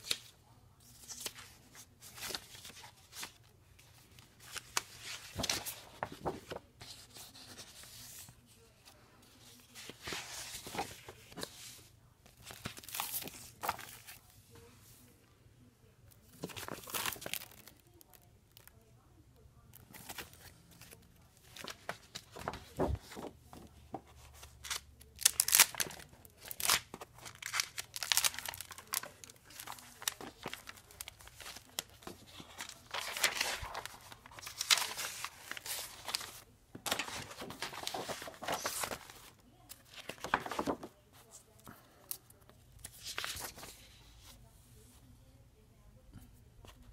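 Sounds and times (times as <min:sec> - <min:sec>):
paper rustling and crinkling: 0:00.0 - 0:15.1, 0:16.2 - 0:18.8, 0:19.7 - 0:44.4.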